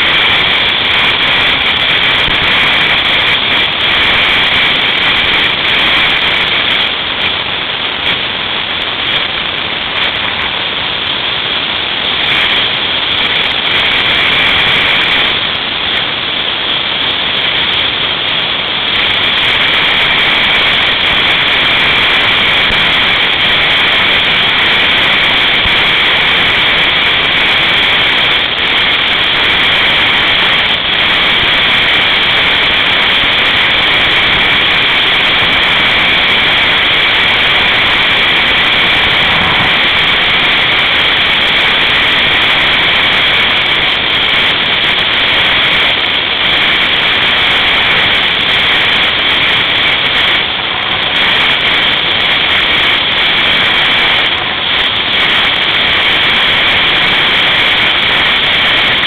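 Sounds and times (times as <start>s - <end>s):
snowmobile engine and wind rush: 0.0s - 59.0s.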